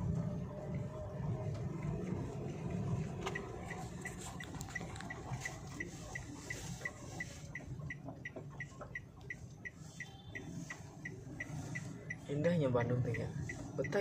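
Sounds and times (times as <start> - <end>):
engine and road hum: 0.0 - 14.0
car indicator ticking: 1.5 - 14.0.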